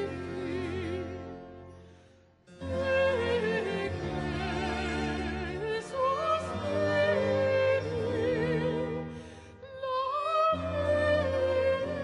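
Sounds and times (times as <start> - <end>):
slow operatic classical music: 0.0 - 12.0.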